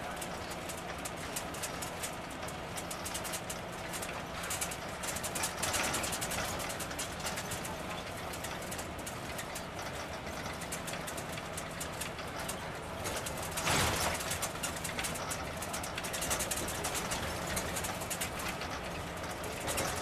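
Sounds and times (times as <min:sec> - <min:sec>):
vehicle engine hum: 0:00.0 - 0:20.0
fast irregular rattle: 0:00.1 - 0:20.0.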